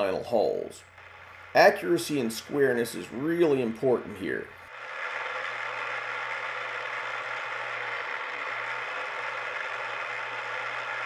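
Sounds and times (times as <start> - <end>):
drill bit boring into steel: 0.9 - 11.0
milling machine spindle whirring: 0.9 - 11.0.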